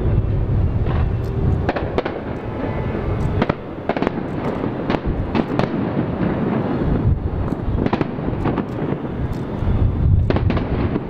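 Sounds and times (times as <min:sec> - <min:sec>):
rumble of bursting fireworks: 0:00.0 - 0:11.0
sharp cracking firework bangs: 0:00.8 - 0:11.0.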